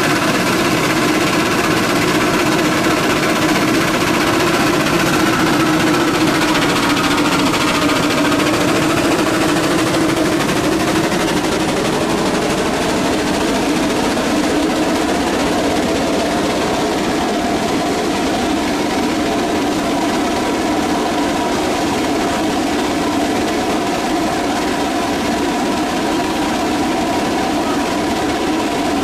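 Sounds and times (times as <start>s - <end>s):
steady hum: 0.0s - 29.0s
steam engine mechanical clatter: 0.0s - 29.0s.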